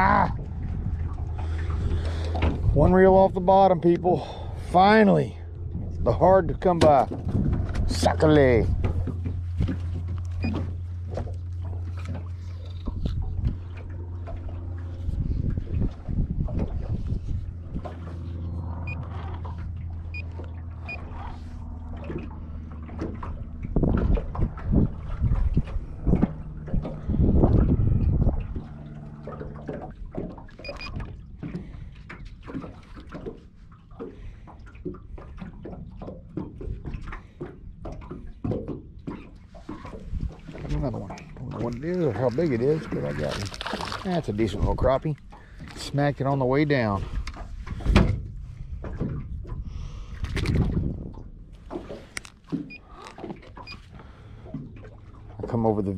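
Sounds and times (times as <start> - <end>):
low rumble: 0.0 - 53.0
small waves lapping against boat hull: 0.0 - 55.9
steady low hum: 0.0 - 55.9.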